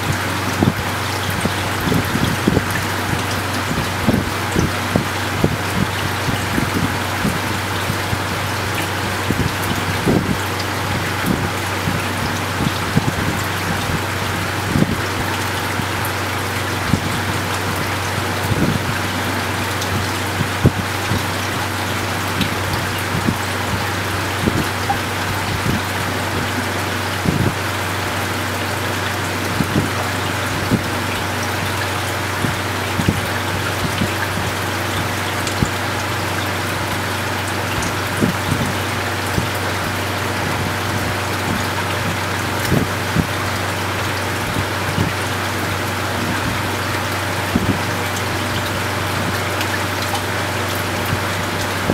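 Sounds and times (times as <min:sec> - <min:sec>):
splashing trickle of water: 0:00.0 - 0:51.9
water drips and plops: 0:00.0 - 0:51.9.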